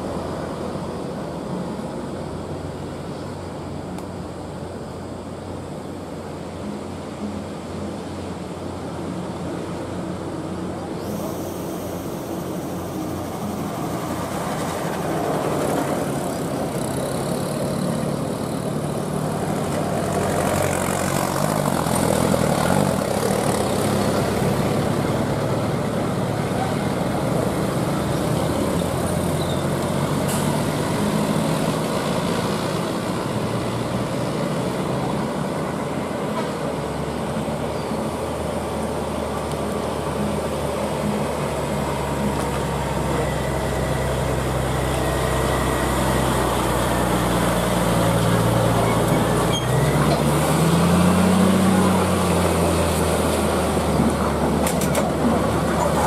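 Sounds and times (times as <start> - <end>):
diesel truck engines under load: 0.0 - 56.0.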